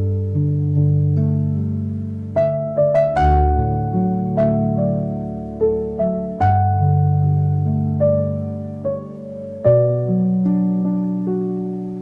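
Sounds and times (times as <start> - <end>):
gently plucked notes: 0.0 - 12.0
soft relaxation music: 0.0 - 12.0.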